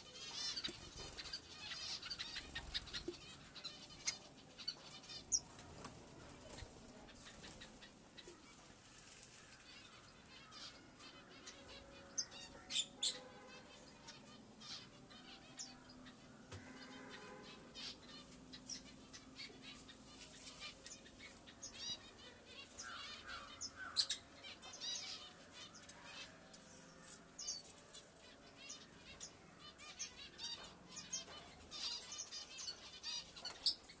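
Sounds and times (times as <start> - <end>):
pet birds chirping: 0.0 - 34.0.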